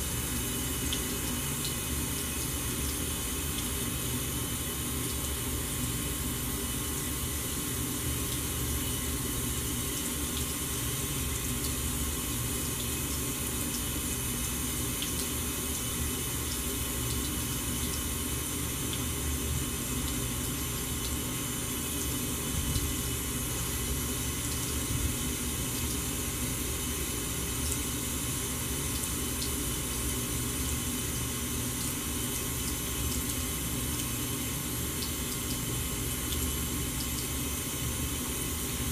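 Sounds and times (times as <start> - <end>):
faucet water splashing into sink: 0.0 - 38.9.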